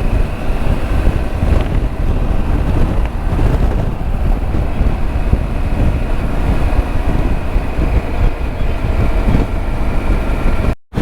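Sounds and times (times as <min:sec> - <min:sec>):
motorcycle running: 0:00.0 - 0:11.0
road noise: 0:00.0 - 0:11.0
wind buffeting microphone: 0:00.0 - 0:11.0.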